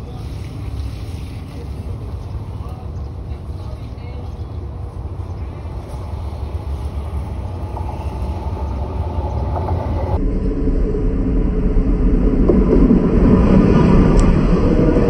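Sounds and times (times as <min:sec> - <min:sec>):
locomotive engine rumble: 0:00.0 - 0:15.0.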